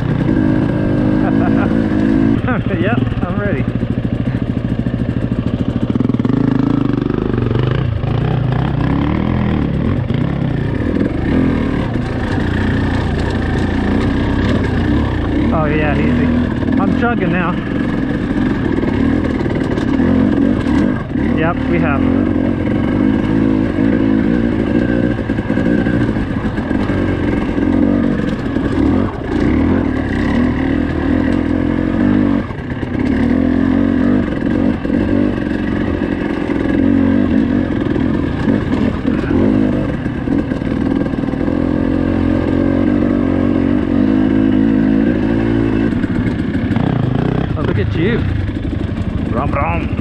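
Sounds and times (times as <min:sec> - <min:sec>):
dirt bike engine running: 0:00.0 - 0:50.0.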